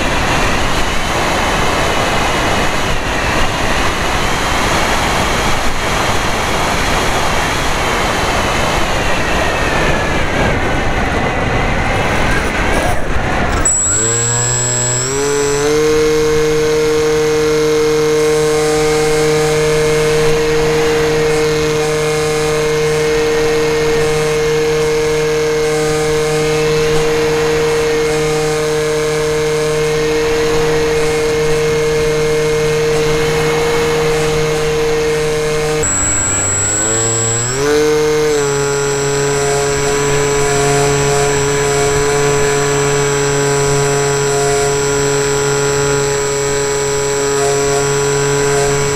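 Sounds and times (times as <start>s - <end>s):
electric motor and propeller whining: 0.0s - 48.9s.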